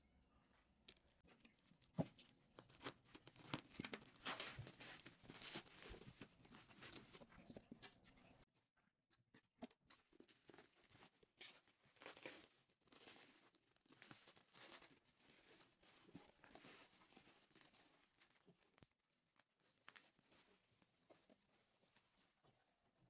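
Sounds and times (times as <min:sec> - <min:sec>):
bubble wrap crinkling and tearing: 0:00.9 - 0:08.4, 0:10.1 - 0:22.1.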